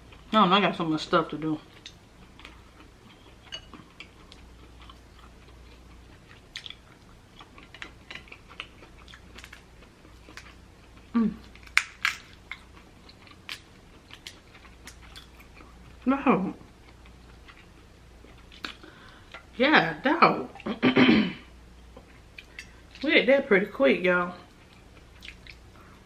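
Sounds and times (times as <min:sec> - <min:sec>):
chewing and wet mouth sounds: 0:01.4 - 0:19.6, 0:21.9 - 0:23.1, 0:24.4 - 0:26.0.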